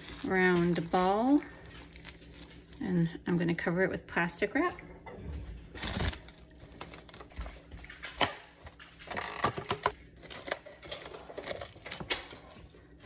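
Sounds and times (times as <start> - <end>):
plastic cling wrap crinkling: 0.0 - 4.6, 5.6 - 13.0.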